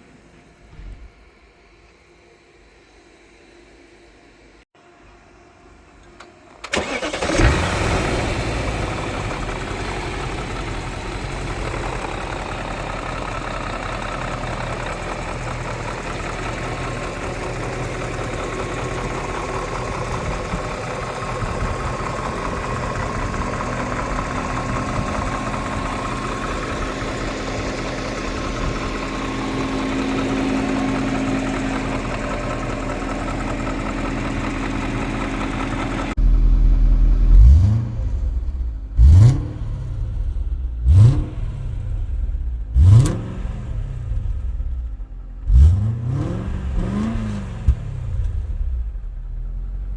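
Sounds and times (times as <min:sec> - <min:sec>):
car engine starting and idling: 0:06.0 - 0:49.9.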